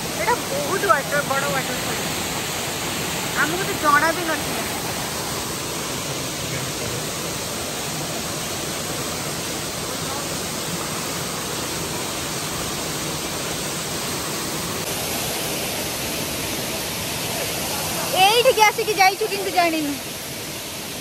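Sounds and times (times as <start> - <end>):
small waterfall rushing: 0.0 - 21.0.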